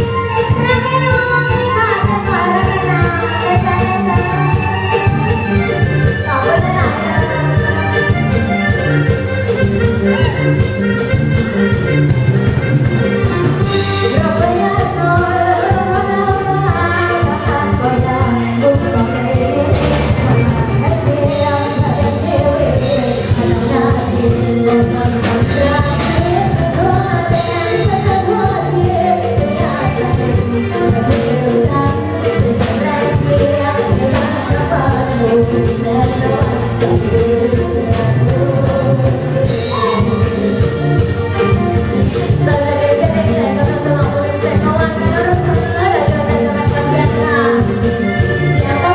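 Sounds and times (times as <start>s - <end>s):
woman singing into microphone: 0.0s - 9.3s, 13.2s - 48.9s
amplified band playing: 0.0s - 48.9s
drum kit beat: 0.0s - 48.9s.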